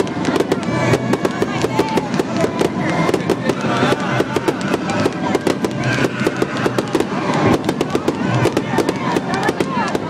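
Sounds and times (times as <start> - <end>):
fireworks banging and crackling: 0.0 - 10.0.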